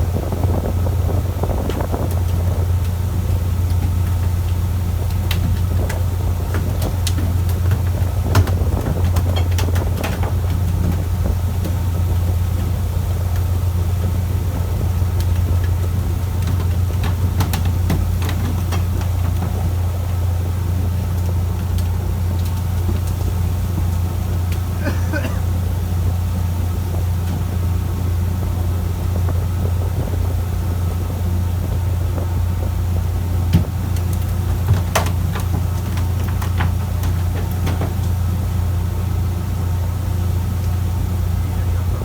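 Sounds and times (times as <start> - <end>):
boat engine drone: 0.0 - 42.0.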